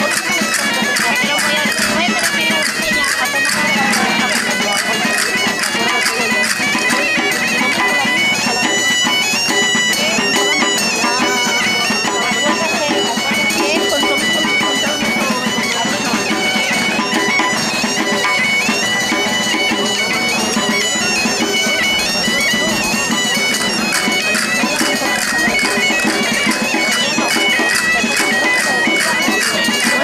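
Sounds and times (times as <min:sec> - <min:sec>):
bagpipe melody: 0:00.0 - 0:30.0.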